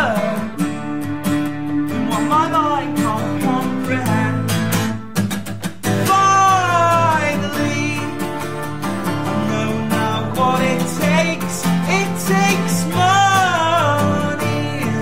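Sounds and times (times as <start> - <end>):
person singing: 0.0 - 5.2, 5.9 - 15.0
strummed acoustic guitar: 0.0 - 15.0.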